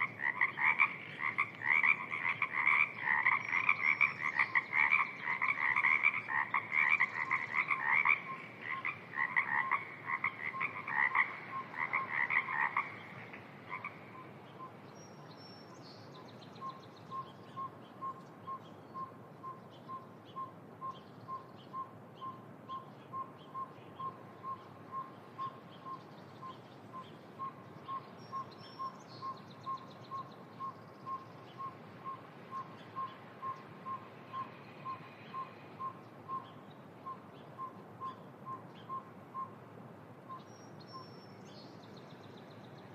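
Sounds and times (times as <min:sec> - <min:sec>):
frogs croaking: 0:00.0 - 0:39.6
faint steady hiss: 0:00.0 - 0:42.9.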